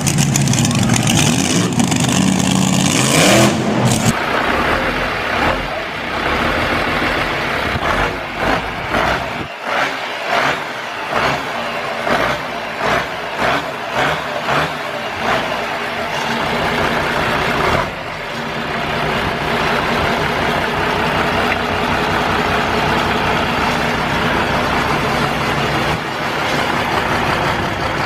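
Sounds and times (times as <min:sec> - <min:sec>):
motorcycle engine revving: 0:00.0 - 0:28.0
pulsing engine-like noise: 0:00.0 - 0:28.0.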